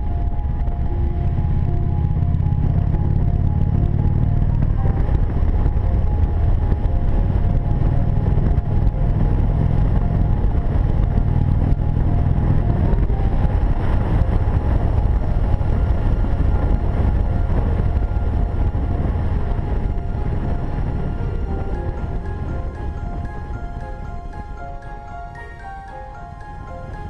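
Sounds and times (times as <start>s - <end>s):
motorcycle engine cruising: 0.0s - 27.0s
wind noise on microphone: 0.0s - 27.0s.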